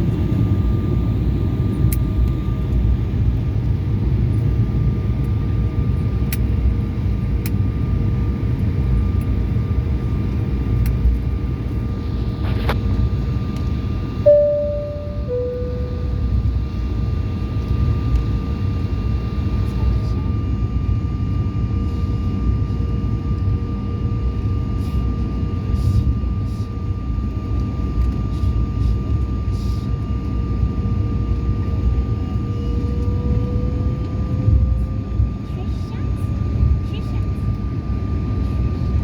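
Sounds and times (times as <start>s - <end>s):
jet engine cabin rumble: 0.0s - 39.0s.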